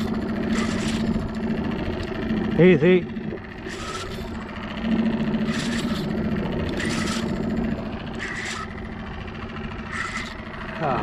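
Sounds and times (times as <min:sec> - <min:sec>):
reel rasping: 0:00.0 - 0:10.8
fishing reel whirring: 0:00.0 - 0:11.0.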